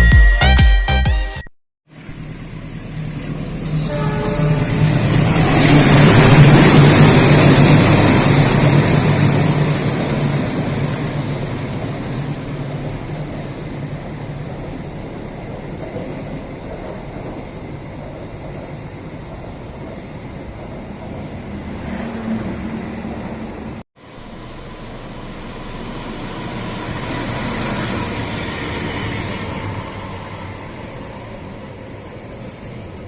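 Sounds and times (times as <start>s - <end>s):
train passing: 1.9s - 33.0s.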